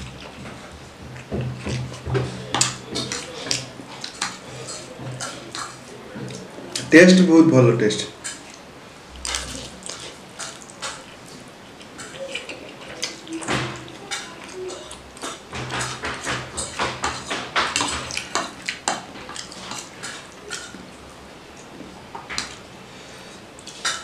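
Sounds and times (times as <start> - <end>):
slurping and chewing noodles: 0.0 - 6.9, 9.2 - 21.7.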